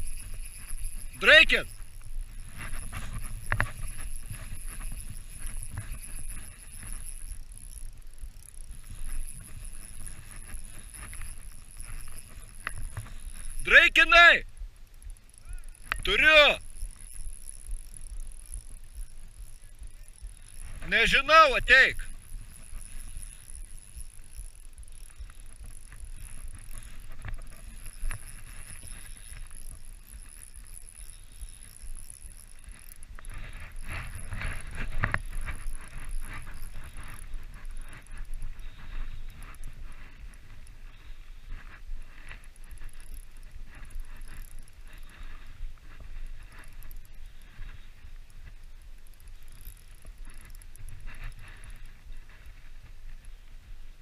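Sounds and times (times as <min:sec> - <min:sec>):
fishing reel clicks: 0:00.0 - 0:54.0.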